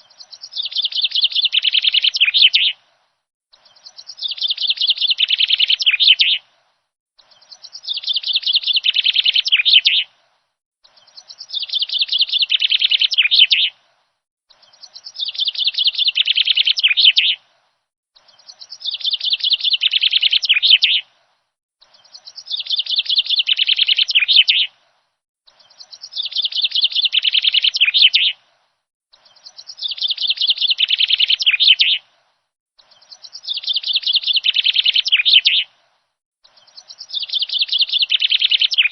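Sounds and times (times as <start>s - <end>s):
songbird chirping trill: 0.0s - 38.9s.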